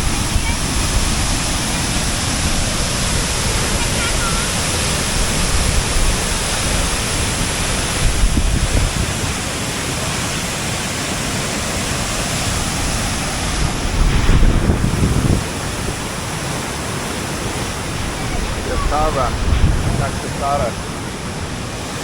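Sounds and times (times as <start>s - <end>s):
waterfall rushing: 0.0s - 22.0s
wind buffeting microphone: 0.0s - 22.0s.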